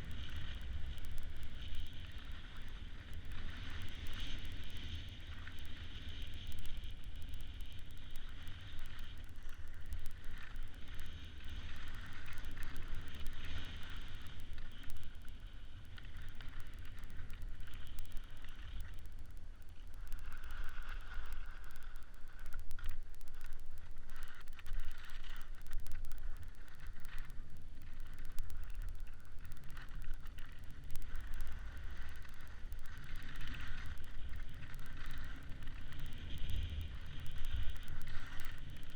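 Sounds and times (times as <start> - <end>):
faint clicks: 0.0 - 38.9.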